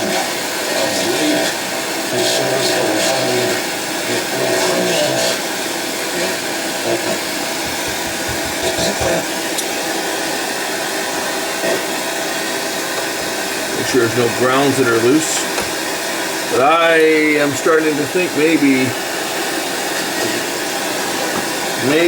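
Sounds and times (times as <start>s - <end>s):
steady hissing noise: 0.0s - 22.0s.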